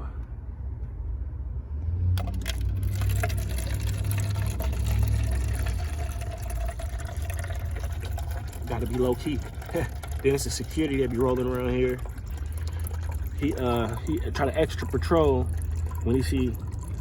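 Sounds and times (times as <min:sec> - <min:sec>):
liquid pouring into a cup: 0:02.2 - 0:17.0.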